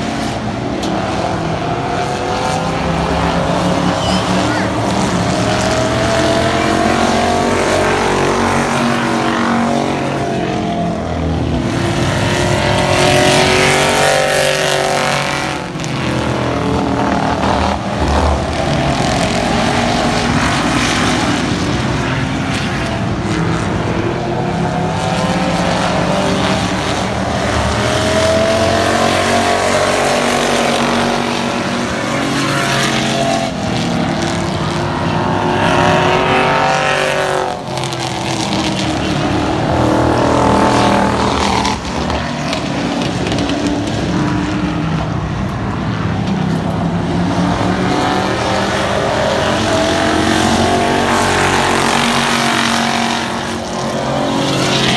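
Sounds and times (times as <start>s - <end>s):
race car engines passing: 0.0s - 54.9s.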